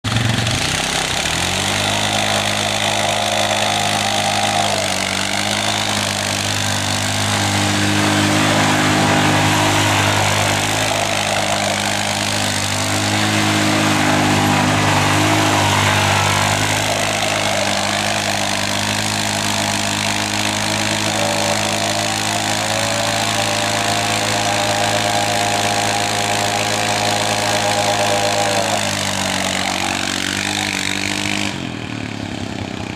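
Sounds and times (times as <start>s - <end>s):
atv engine revving: 0.0s - 32.9s
tyres spinning on pavement: 0.0s - 32.9s.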